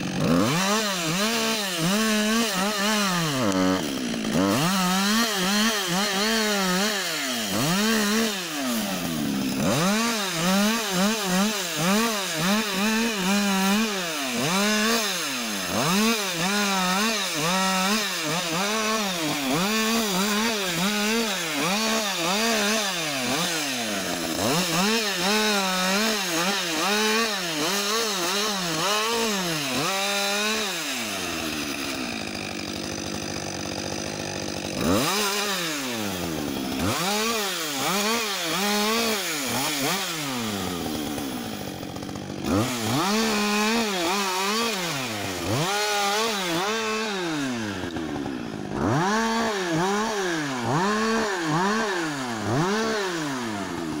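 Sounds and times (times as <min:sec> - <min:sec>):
chainsaw revving and idling: 0:00.0 - 0:54.0.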